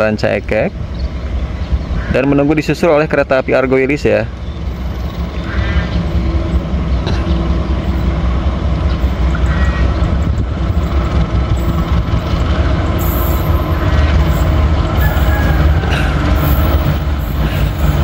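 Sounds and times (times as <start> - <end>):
diesel locomotive engine rumbling: 0.0 - 18.0.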